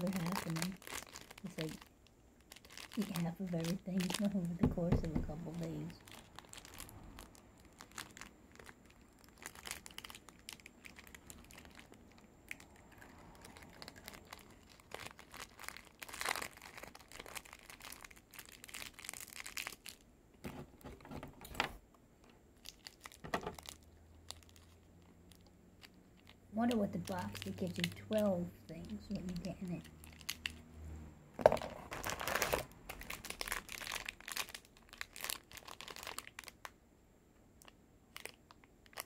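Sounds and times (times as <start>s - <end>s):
plastic wrapper crinkling: 0.0s - 21.8s, 22.5s - 30.6s, 31.4s - 36.8s, 37.6s - 39.0s.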